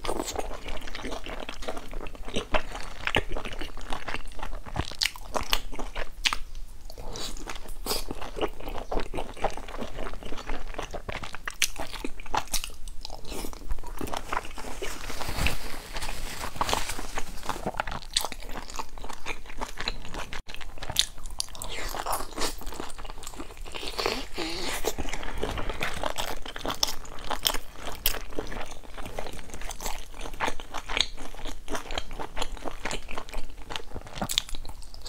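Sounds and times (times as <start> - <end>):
biting and chewing crispy buns: 0.0 - 35.0.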